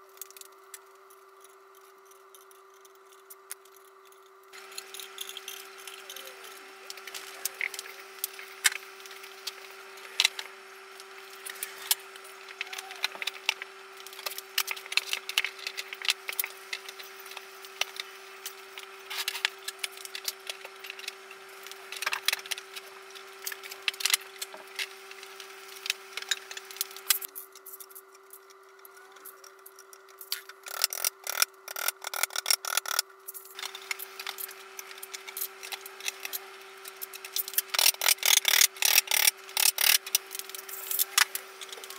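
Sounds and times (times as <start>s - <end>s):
faint hum: 0.0s - 41.9s.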